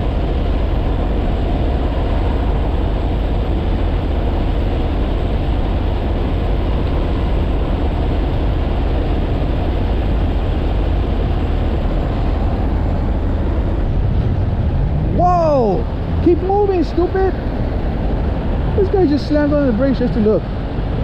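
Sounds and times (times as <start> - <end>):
heavy vehicle rumbling: 0.0 - 21.0.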